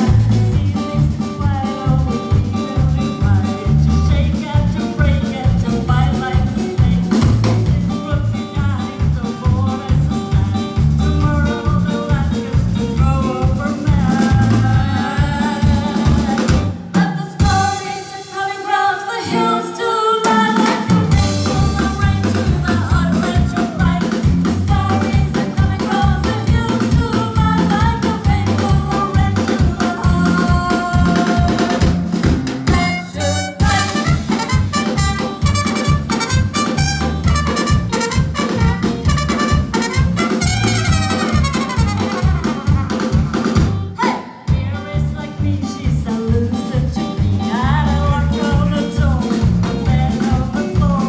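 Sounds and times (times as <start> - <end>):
women singing: 0.0 - 32.0, 32.7 - 35.2, 44.0 - 51.0
live rock band playing: 0.0 - 51.0.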